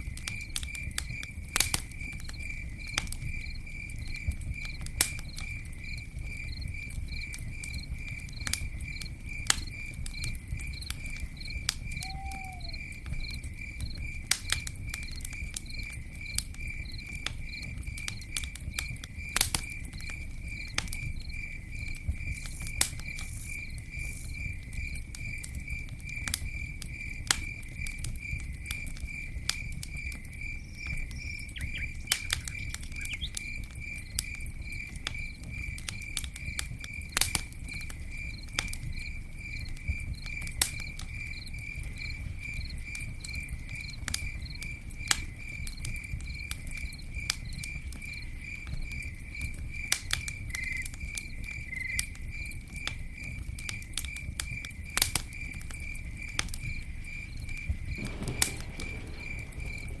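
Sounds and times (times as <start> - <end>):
campfire burning: 0.0 - 60.0
cricket chirping: 0.0 - 60.0.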